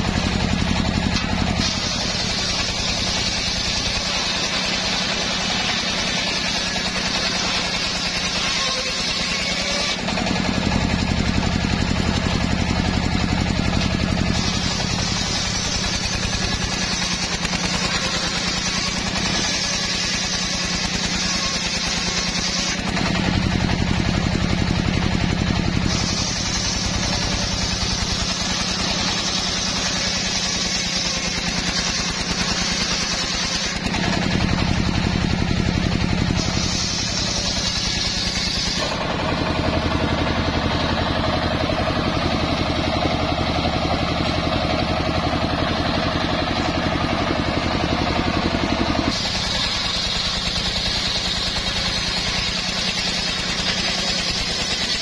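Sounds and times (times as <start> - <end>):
engine running under load: 0.0 - 55.0
saw blade cutting wood: 0.0 - 55.0.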